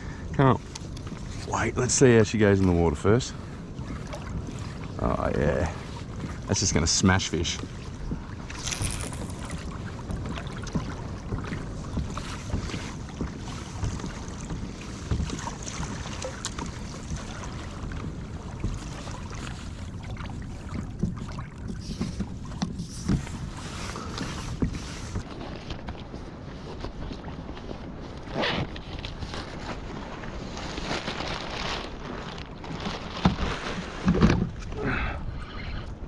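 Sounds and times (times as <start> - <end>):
water lapping against kayak hull: 0.0 - 36.0
wind buffeting microphone: 0.0 - 36.0.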